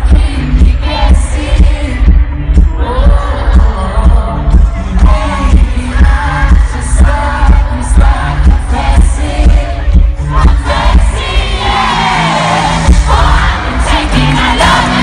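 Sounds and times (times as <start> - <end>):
heavy pulsing bass: 0.0 - 15.0
male singer: 0.0 - 15.0.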